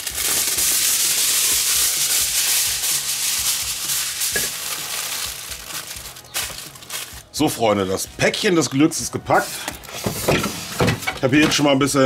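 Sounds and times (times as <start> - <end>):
aluminium foil crinkling: 0.0 - 10.4.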